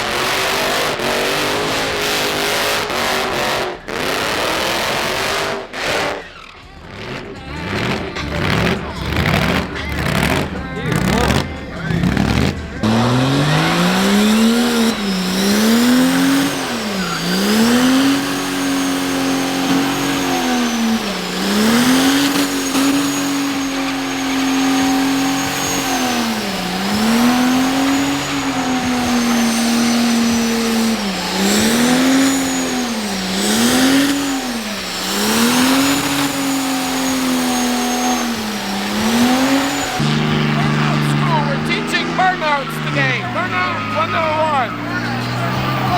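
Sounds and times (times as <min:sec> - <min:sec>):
diesel truck engine revving hard: 0:00.0 - 0:45.9.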